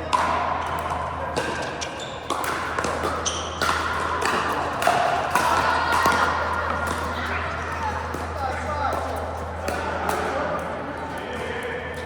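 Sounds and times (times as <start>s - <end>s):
ball bouncing on court: 0.0s - 10.3s.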